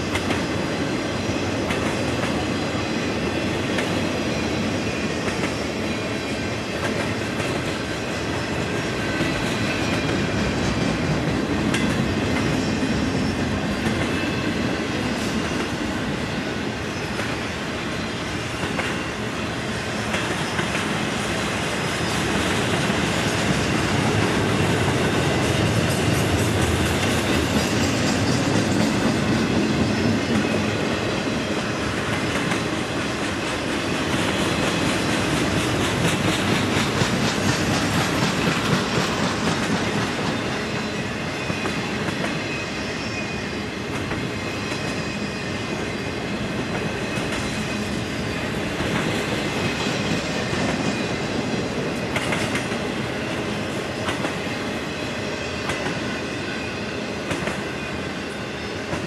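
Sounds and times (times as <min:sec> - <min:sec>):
freight train rumbling: 0:00.0 - 0:59.0
train wheels clattering on rails: 0:00.0 - 0:59.0.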